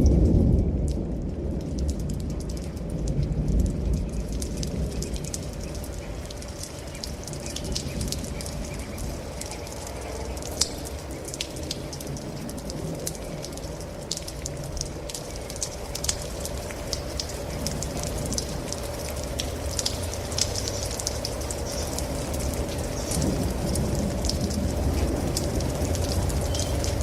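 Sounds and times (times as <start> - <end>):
rain falling: 0.0 - 27.0
raindrops ticking: 0.0 - 27.0.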